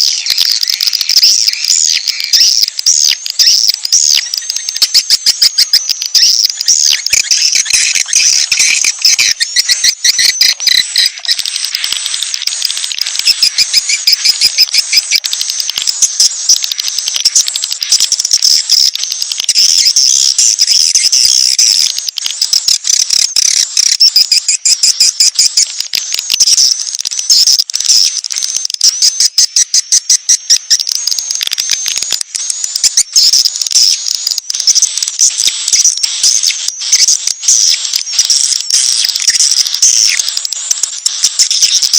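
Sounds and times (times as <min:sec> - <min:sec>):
rapid bird chattering and trilling: 0:00.0 - 0:41.9.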